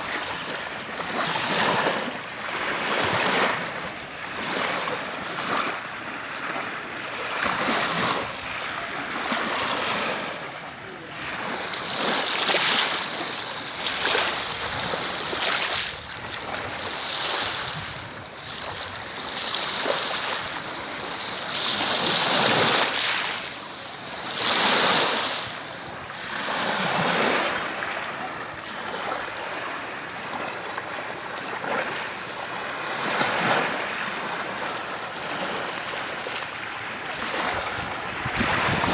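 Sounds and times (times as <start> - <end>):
sea waves washing onto beach: 0.0 - 38.9.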